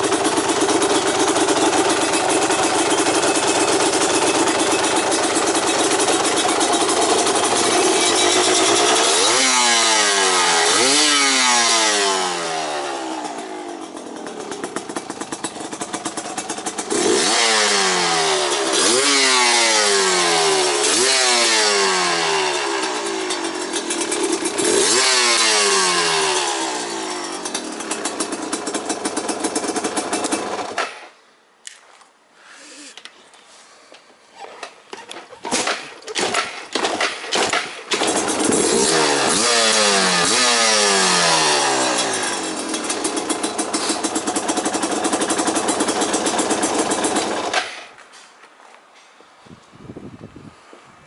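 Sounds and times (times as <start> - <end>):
motorcycle engine revving: 0.0 - 31.0, 35.0 - 48.0.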